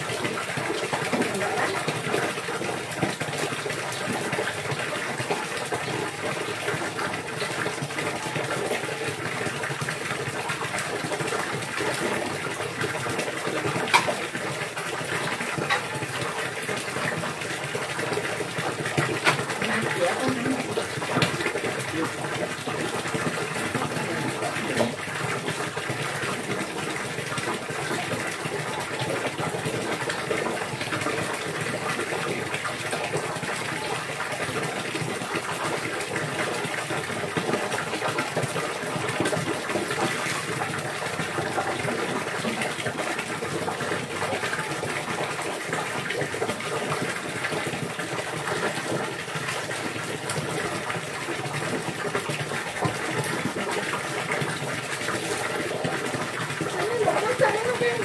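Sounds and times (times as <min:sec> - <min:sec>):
water running: 0:00.0 - 0:58.0.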